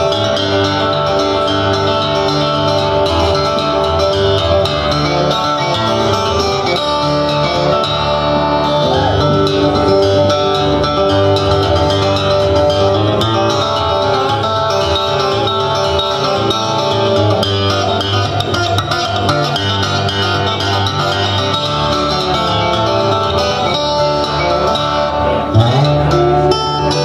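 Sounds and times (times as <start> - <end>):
fingerstyle harp guitar: 0.0 - 27.0.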